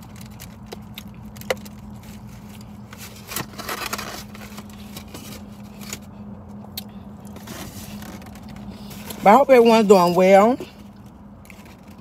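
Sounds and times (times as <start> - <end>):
food containers and wrappers handled: 0.0 - 12.0
steady low hum: 0.0 - 12.0.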